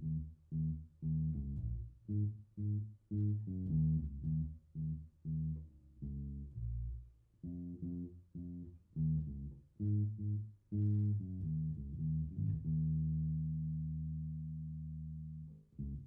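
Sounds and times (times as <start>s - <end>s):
electric bass guitar plucked notes: 0.0s - 16.0s.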